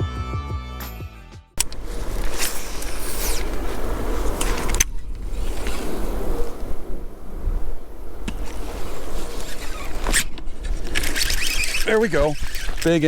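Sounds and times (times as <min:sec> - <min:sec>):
rustling: 0:01.6 - 0:13.0
wind buffeting microphone: 0:01.6 - 0:13.0.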